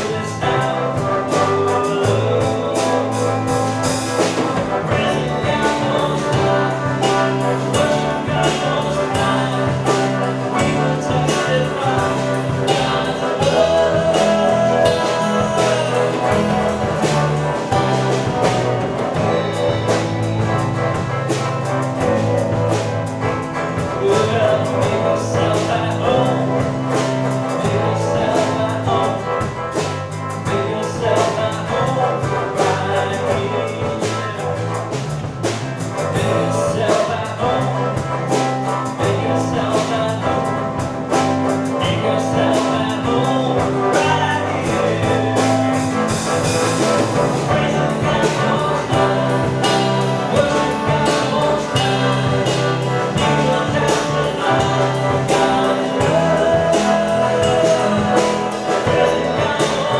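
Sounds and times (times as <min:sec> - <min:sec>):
bass line: 0:00.0 - 0:59.9
drums: 0:00.0 - 0:59.9
lead melody: 0:00.0 - 0:59.9
worship band music: 0:00.0 - 0:59.9.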